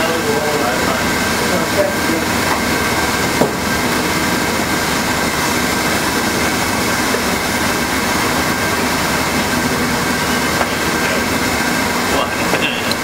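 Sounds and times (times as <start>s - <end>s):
hot air welder blowers whining: 0.0s - 13.0s.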